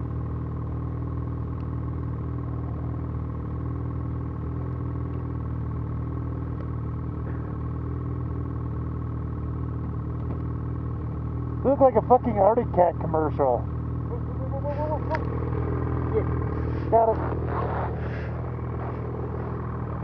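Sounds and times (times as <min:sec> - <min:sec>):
snowmobile engine idling: 0:00.0 - 0:20.0.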